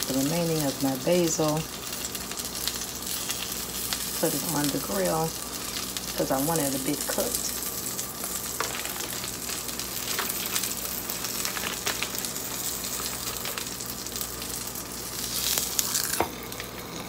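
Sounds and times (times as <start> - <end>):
fish sizzling: 0.0 - 17.0.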